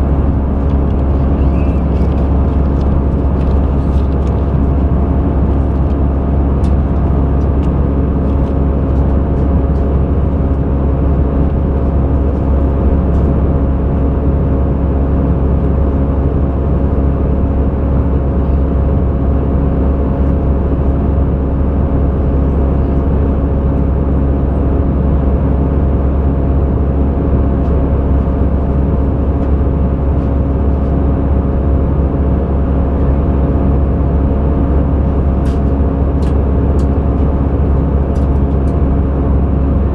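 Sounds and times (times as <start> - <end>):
airplane cabin engine drone: 0.0 - 39.9
constant hums: 0.0 - 39.9.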